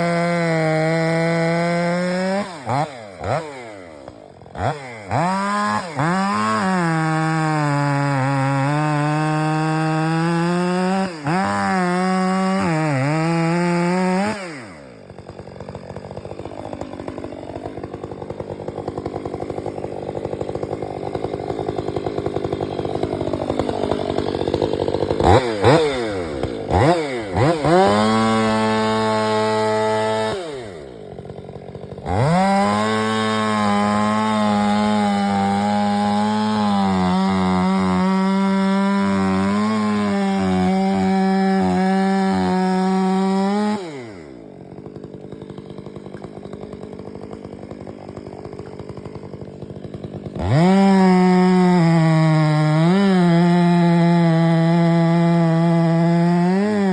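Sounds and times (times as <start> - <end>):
chainsaw revving and idling: 0.0 - 56.9.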